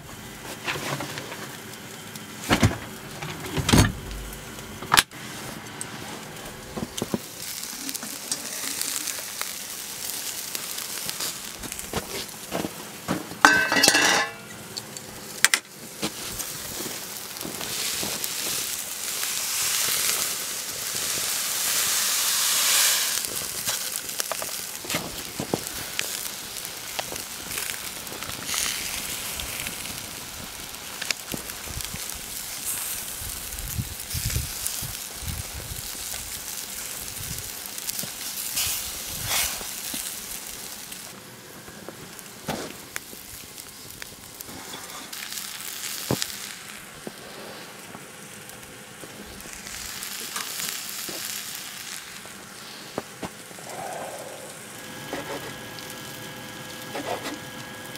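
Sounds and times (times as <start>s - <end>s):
wood fire crackling: 0.0s - 57.9s
pan sizzling: 4.2s - 57.9s.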